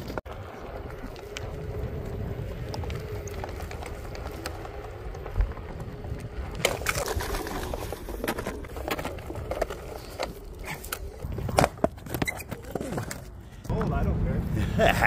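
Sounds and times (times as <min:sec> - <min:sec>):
crackling noise: 0:00.0 - 0:14.1
board rolling over asphalt: 0:00.0 - 0:14.9.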